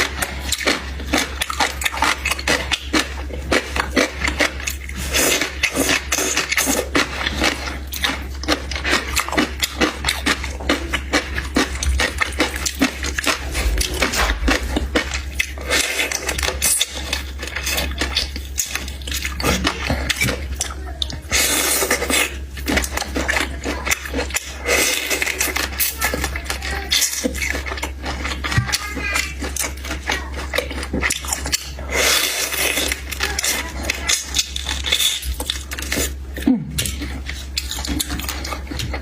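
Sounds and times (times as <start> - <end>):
person chewing and biting: 0.0 - 39.0.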